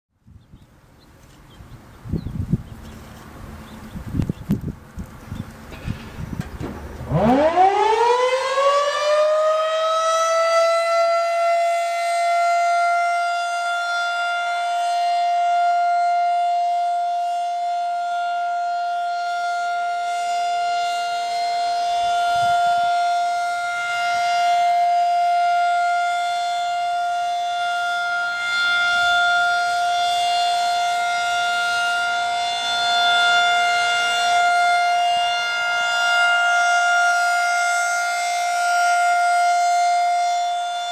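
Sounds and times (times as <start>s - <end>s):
warning siren winding up: 7.0s - 40.9s.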